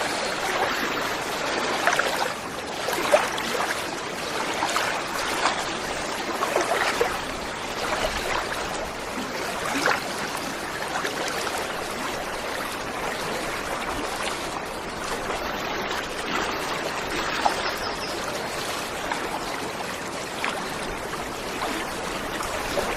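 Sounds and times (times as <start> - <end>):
small water splashes: 0.0 - 22.9.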